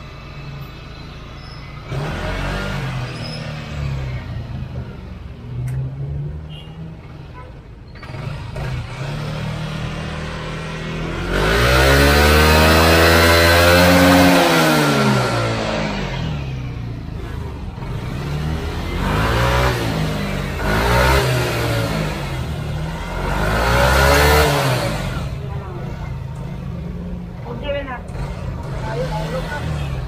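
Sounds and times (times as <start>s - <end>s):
scooter engine revving: 0.0s - 30.0s.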